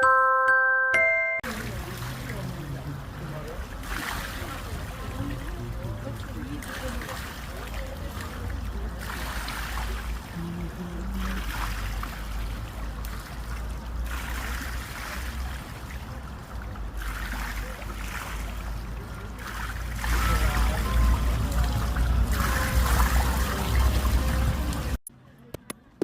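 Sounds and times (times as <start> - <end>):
water lapping and trickling: 1.4 - 25.0.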